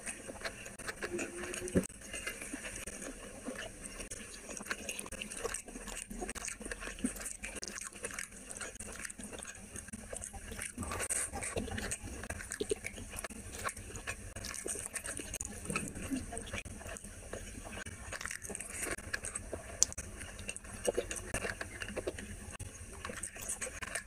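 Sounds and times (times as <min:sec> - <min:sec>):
chewing: 0:00.0 - 0:24.0
wet squishing of food mixed by hand: 0:00.0 - 0:24.0.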